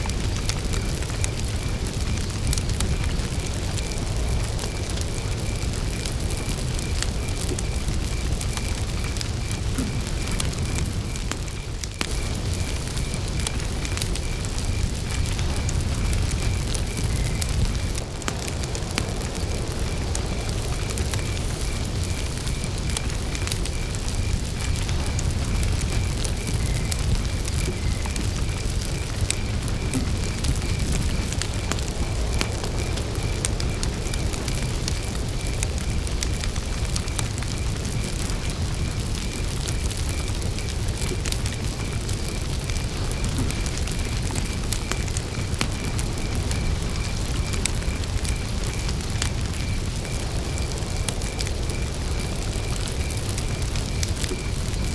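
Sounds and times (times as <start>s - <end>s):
campfire crackling: 0.0s - 54.9s
cricket chirping: 0.0s - 54.9s.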